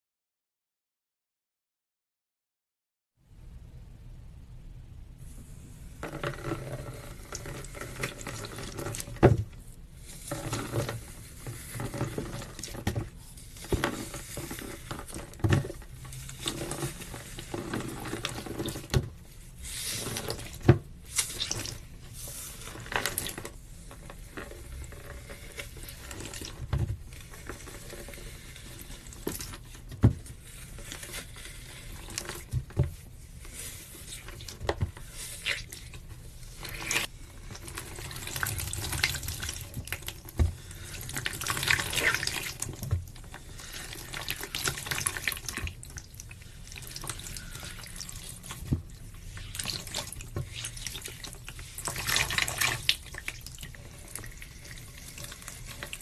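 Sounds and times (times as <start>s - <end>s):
slime squelching: 10.0s - 56.0s.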